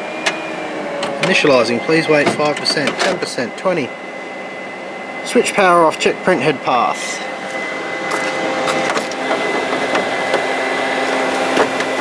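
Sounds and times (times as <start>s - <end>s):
plotter fans whirring: 0.0s - 12.0s.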